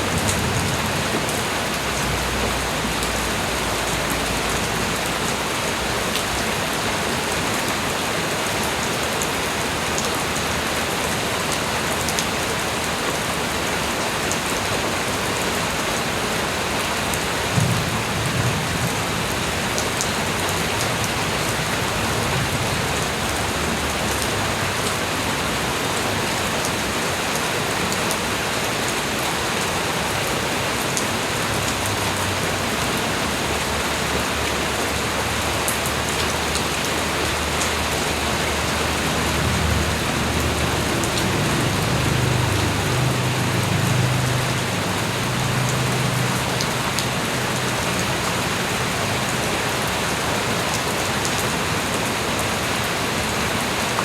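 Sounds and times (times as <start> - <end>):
light rain falling: 0.0 - 54.0.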